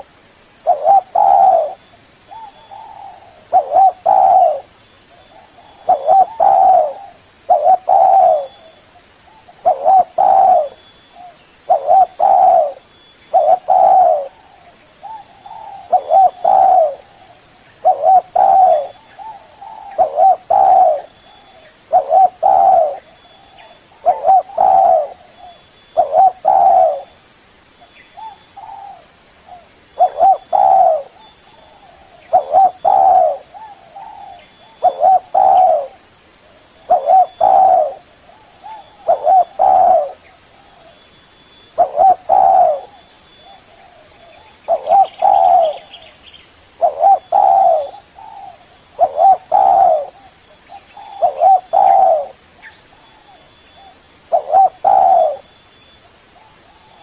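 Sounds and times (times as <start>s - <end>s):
dove cooing: 0.6s - 27.2s, 28.1s - 55.6s, 56.4s - 57.0s.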